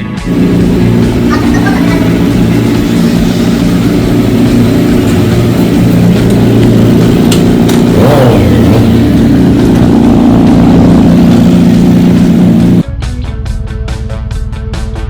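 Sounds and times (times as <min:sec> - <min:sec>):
motorcycle engine at speed: 0:00.2 - 0:12.8.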